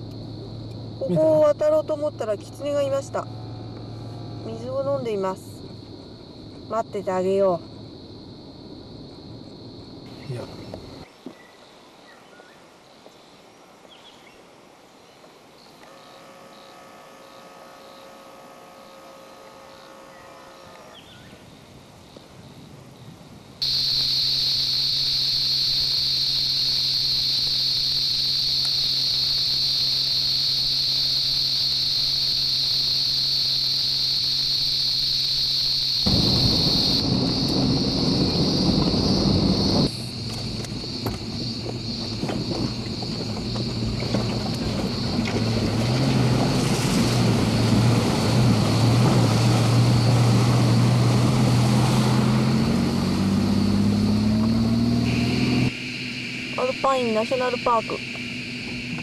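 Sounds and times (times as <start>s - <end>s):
high-pitched insect chorus: 0.0s - 12.1s, 15.0s - 50.8s, 52.4s - 59.0s.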